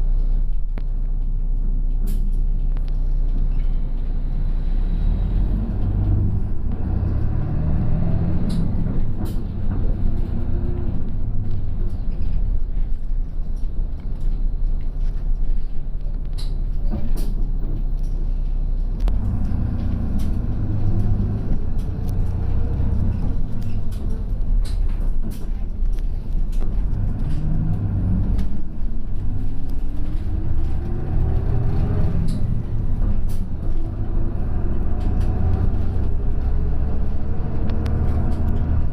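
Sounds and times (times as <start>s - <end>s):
bus engine accelerating: 0.0s - 38.9s.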